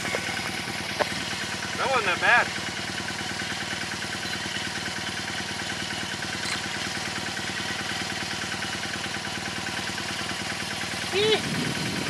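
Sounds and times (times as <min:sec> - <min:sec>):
winch running under load: 0:00.0 - 0:12.0.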